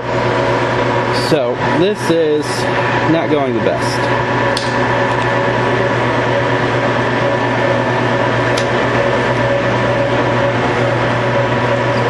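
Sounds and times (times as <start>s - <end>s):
machine-shop equipment humming: 0.0s - 12.0s.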